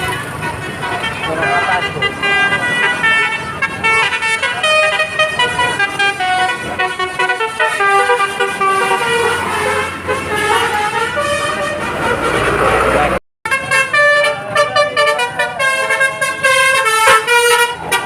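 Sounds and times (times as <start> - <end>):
bus horn playing a melody: 0.0 - 18.0.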